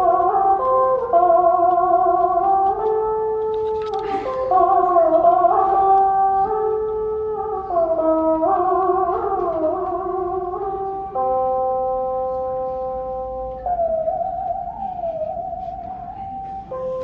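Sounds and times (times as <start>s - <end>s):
monochord playing slow melody: 0.0s - 17.0s.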